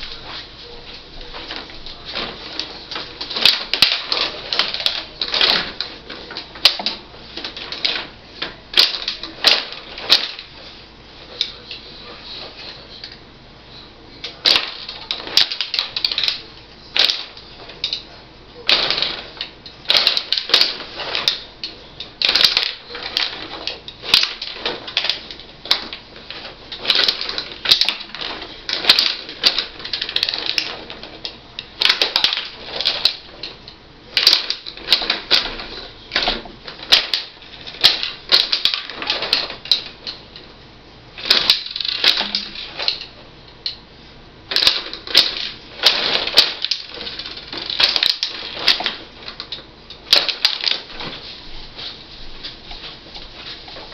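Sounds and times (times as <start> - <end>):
control rods rattling: 1.2 - 10.6, 14.2 - 40.5, 41.2 - 43.8, 44.5 - 51.3.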